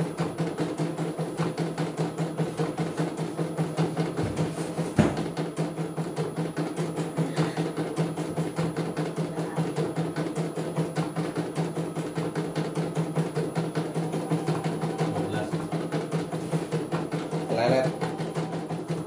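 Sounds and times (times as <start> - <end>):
steady motor hum: 0.0 - 19.0.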